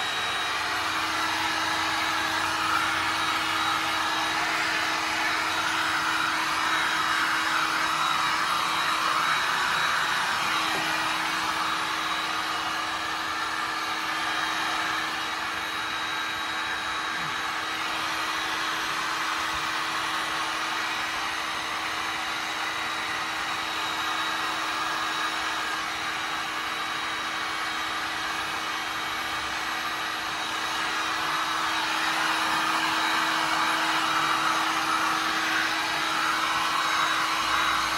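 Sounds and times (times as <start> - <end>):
heat gun whirring: 0.0 - 37.9.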